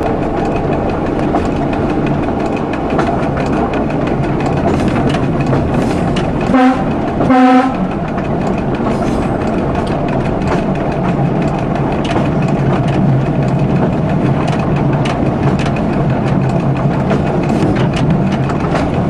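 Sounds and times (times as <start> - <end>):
diesel train engine drone: 0.0 - 19.0
wheels clicking on rails: 0.0 - 19.0.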